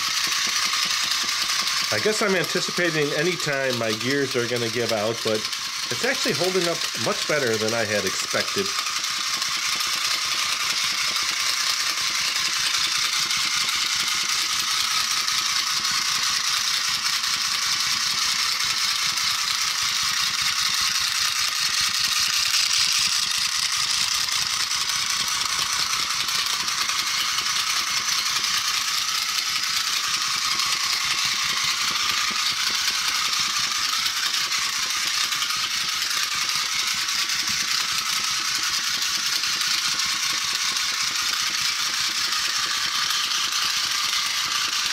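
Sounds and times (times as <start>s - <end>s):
toy motor and gears whirring: 0.0s - 44.9s
wing-flapping mechanism rattle: 0.0s - 44.9s.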